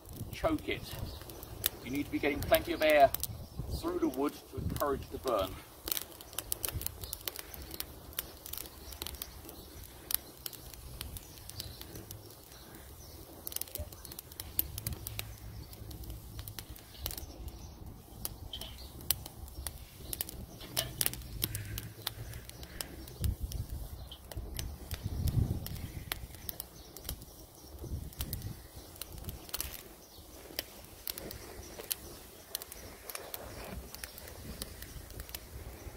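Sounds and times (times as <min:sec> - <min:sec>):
fire crackling: 0:00.0 - 0:35.9
wood snapping and popping: 0:00.0 - 0:35.9.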